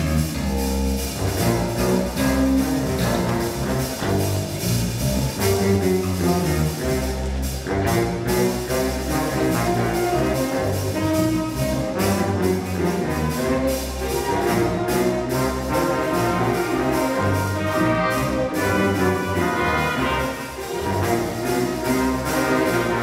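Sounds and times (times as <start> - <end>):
bass guitar: 0.0 - 23.0
percussion beat: 0.0 - 23.0
saxophones and brass: 0.0 - 23.0.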